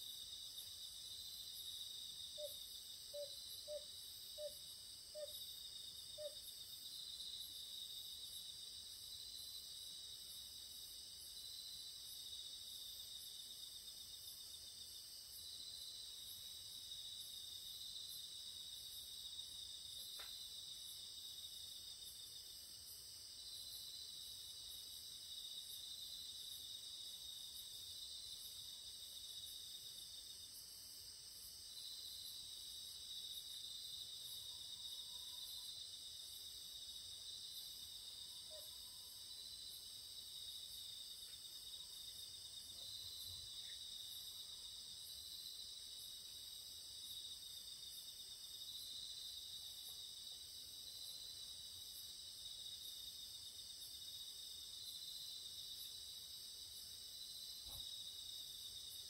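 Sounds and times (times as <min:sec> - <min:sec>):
steady insect trills: 0:00.0 - 0:59.0.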